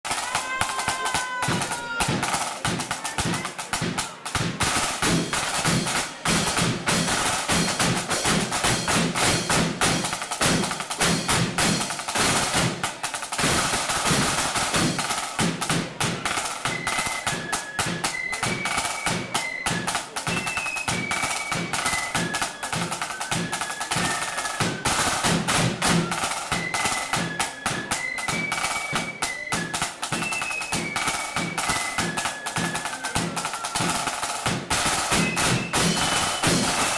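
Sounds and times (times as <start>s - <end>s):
rapid snare drumming: 0.0s - 36.9s
flutes playing melody: 0.1s - 36.9s.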